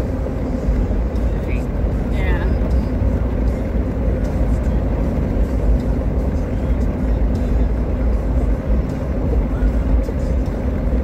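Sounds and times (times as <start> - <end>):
road and engine rumble in car cabin: 0.0 - 11.0.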